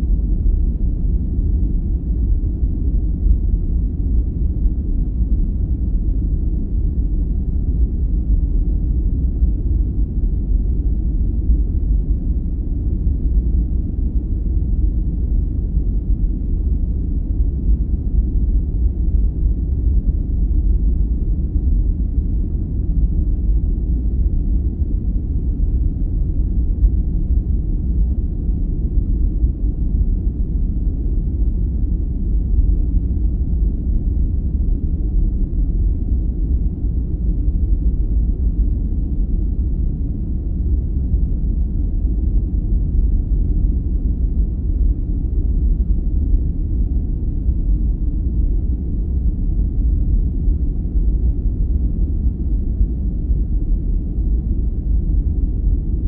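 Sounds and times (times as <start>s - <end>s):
deep rumbling brown noise: 0.0s - 56.0s.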